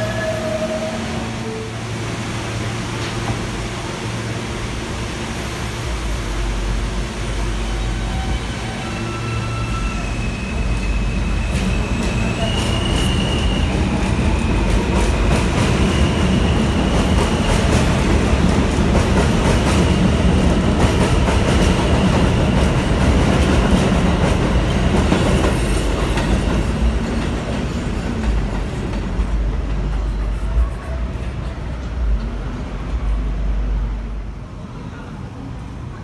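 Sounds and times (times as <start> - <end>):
subway train wheels clattering: 0.0 - 36.0
train rumble: 0.0 - 36.0.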